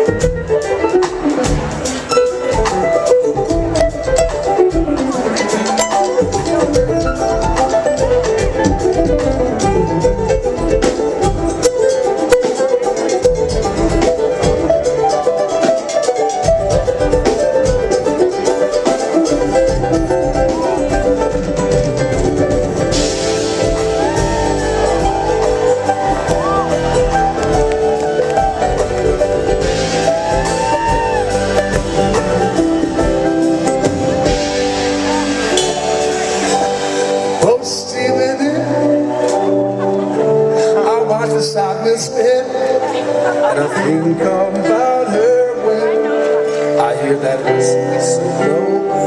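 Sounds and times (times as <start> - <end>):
banjo picking: 0.0 - 49.0
mandolin picking: 0.0 - 49.0.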